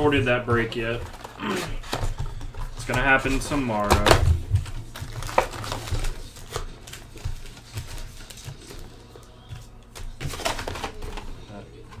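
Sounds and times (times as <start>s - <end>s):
cardboard and card packs handled: 0.0s - 12.0s
clicks taps and rustles: 0.0s - 12.0s.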